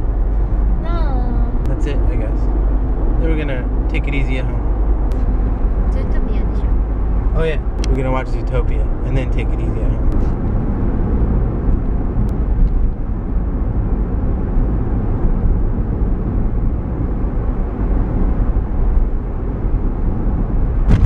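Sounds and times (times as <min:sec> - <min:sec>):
car driving heard from inside: 0:00.0 - 0:21.0.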